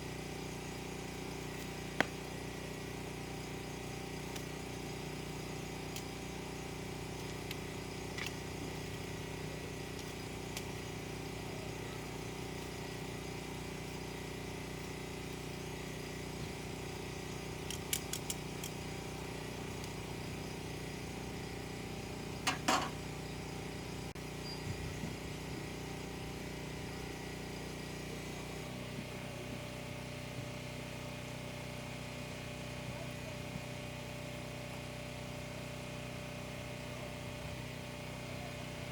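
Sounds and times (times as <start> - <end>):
engine humming: 0.0 - 38.9.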